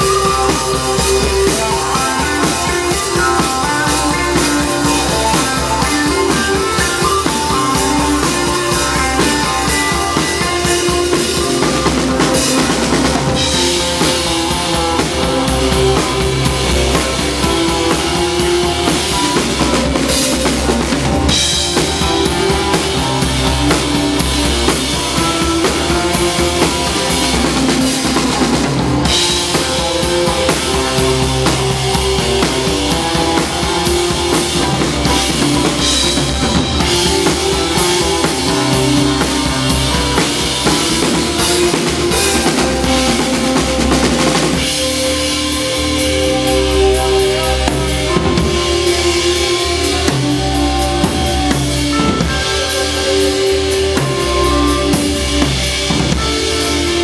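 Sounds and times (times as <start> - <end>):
drum kit beat: 0.0 - 57.0
live band playing: 0.0 - 57.0.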